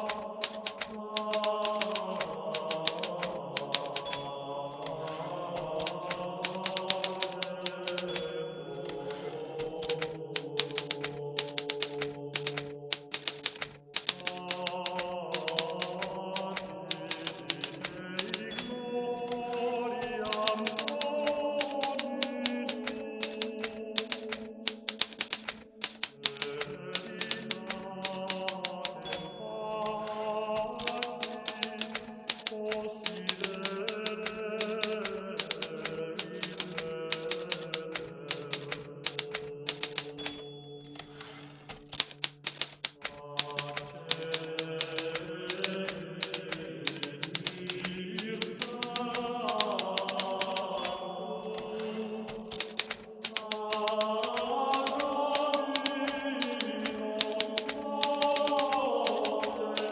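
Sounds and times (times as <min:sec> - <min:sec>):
typewriter keystrokes: 0:00.0 - 0:59.9.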